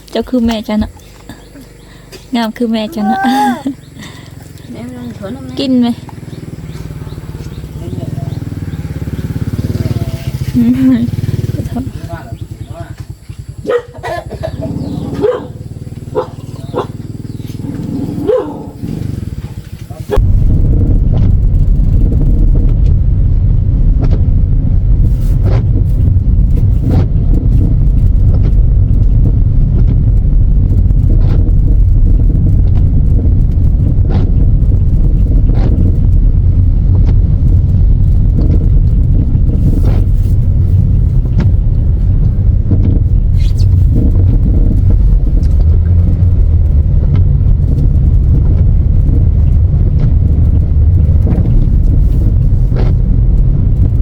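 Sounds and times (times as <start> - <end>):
loud steady low rumble: 0.0 - 54.0.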